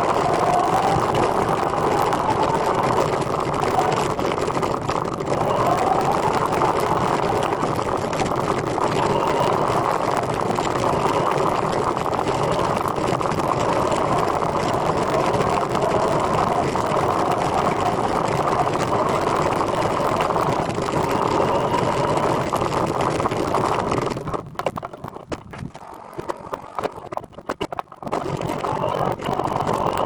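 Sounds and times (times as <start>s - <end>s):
scattered clicks and ticks: 0.0s - 30.0s
wind noise: 0.0s - 30.0s.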